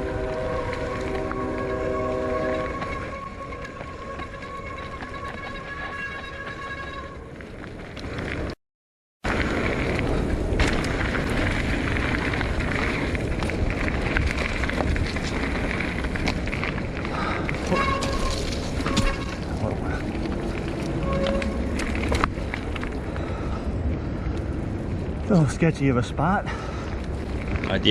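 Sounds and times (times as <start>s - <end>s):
wind and tyre noise: 0.0s - 8.6s, 9.2s - 27.9s
bike rattling over rocks: 2.6s - 8.6s, 9.3s - 23.5s, 25.3s - 27.9s.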